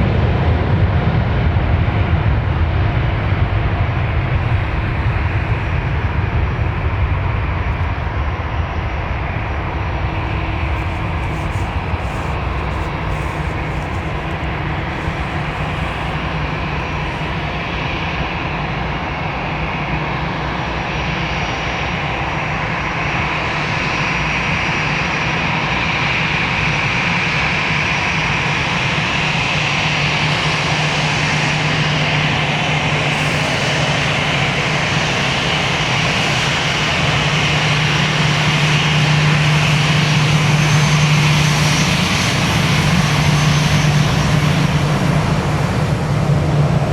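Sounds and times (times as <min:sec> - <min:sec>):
jet engines at takeoff thrust: 0:00.0 - 0:46.9
steady low hum: 0:00.0 - 0:46.9.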